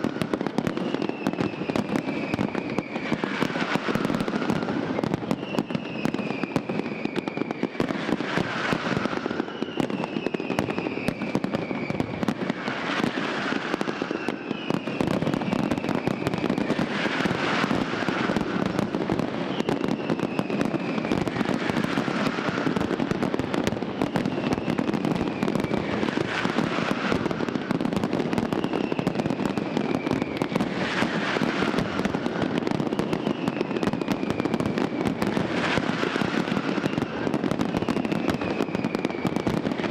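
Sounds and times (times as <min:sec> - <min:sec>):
falling firework whistle: 0:00.0 - 0:39.9
fireworks crackling and popping: 0:00.0 - 0:39.9.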